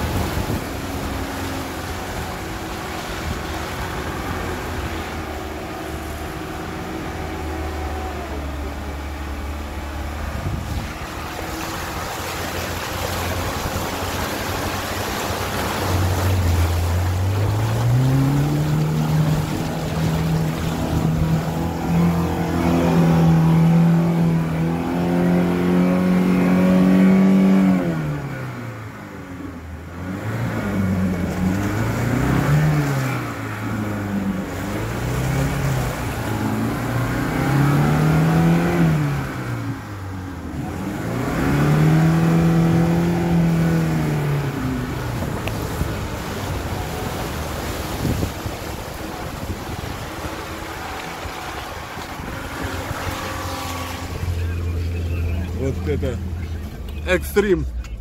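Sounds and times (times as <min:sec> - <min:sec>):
engine revving under load: 0:00.0 - 0:57.2
water churning and splashing: 0:00.0 - 0:58.0.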